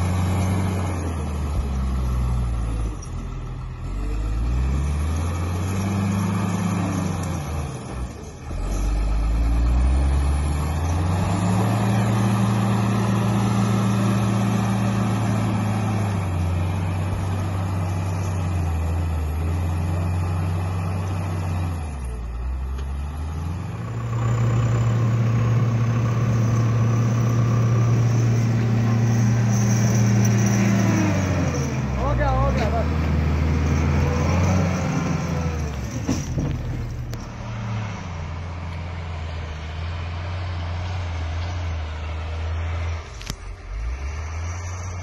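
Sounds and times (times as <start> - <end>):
diesel engine revving under load: 0.0 - 45.0.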